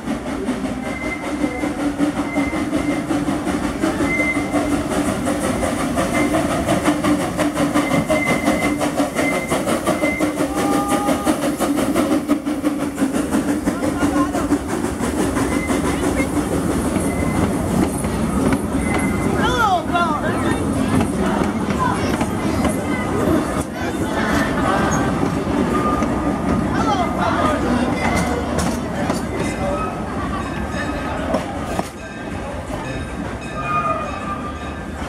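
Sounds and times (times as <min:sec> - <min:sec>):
steam locomotive running: 0:00.0 - 0:35.0
train wheels clickety-clack: 0:00.0 - 0:35.0.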